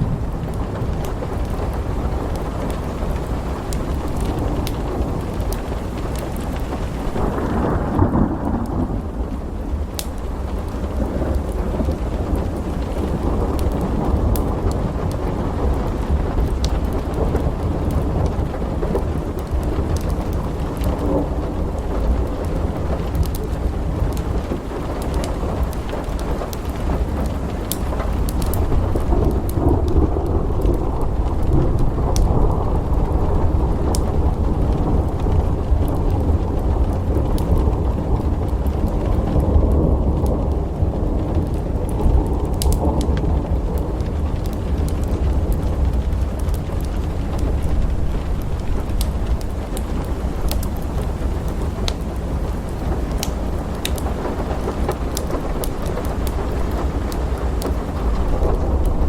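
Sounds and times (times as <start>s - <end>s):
rolling thunder rumble: 0.0s - 59.0s
steady rain: 0.0s - 59.0s.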